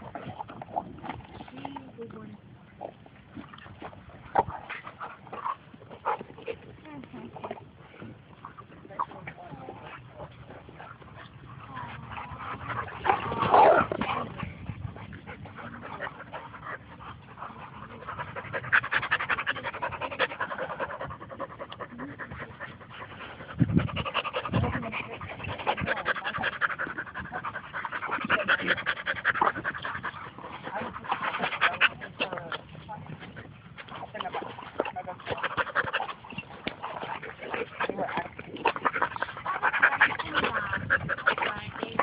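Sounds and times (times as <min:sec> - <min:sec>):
dogs panting: 0:00.0 - 0:42.0.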